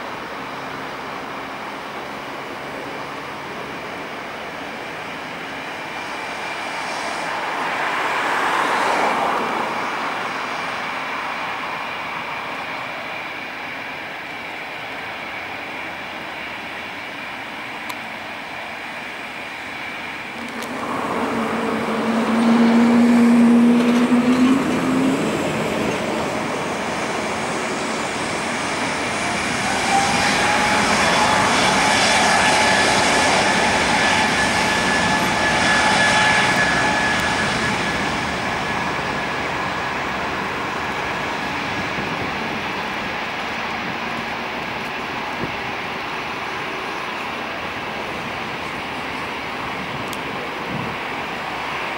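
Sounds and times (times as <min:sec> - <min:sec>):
jet engines whining: 0:03.0 - 0:51.9.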